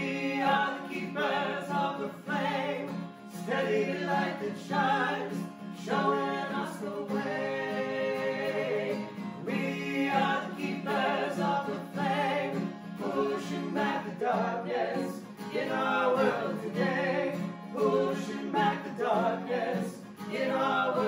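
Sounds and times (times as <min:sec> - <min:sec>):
people singing in harmony: 0:00.0 - 0:21.0
strummed acoustic guitar: 0:00.0 - 0:21.0.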